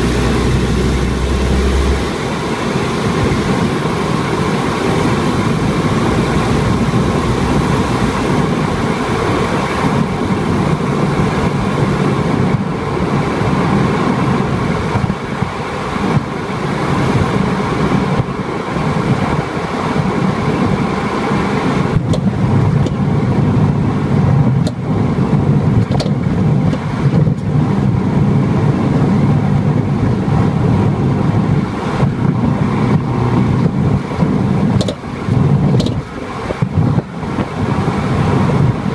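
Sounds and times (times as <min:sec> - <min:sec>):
car road and engine noise: 0:00.0 - 0:38.9
suspension clacking over bumps: 0:00.0 - 0:38.9.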